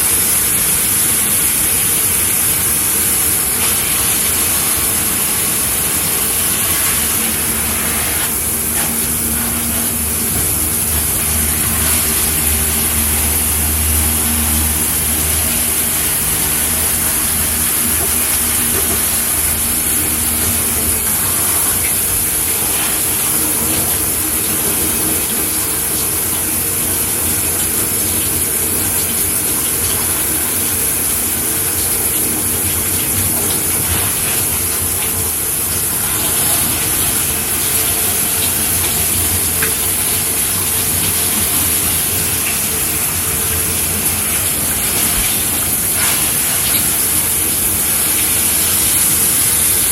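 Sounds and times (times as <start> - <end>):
shower water spraying: 0.0 - 49.9.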